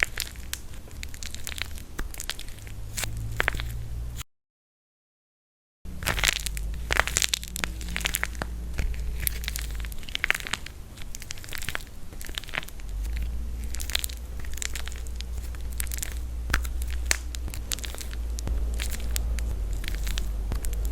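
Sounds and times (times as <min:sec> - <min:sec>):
dried clay crackling and crunching: 0:00.0 - 0:04.2, 0:05.9 - 0:20.9.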